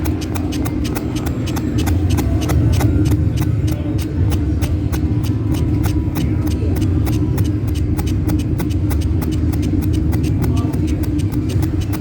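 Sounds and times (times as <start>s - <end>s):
rapid sharp clicks: 0.0s - 12.0s.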